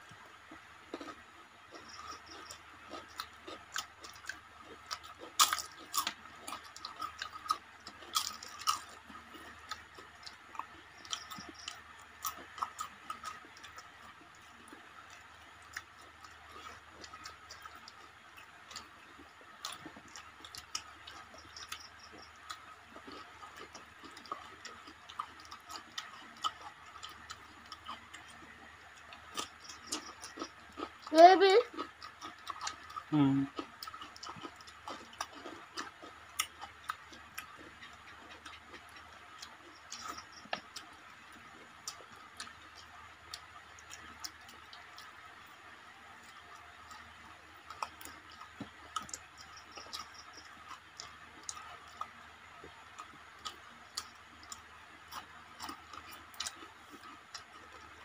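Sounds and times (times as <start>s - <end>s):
chewing and mouth clicks: 0.0s - 58.0s.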